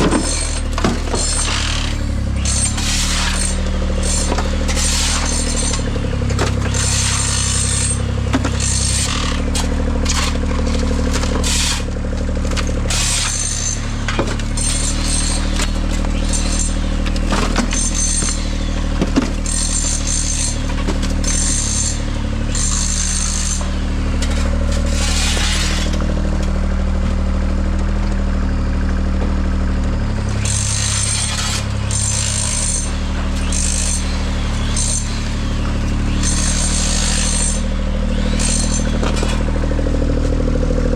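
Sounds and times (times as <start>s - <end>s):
large engine running: 0.0s - 40.9s.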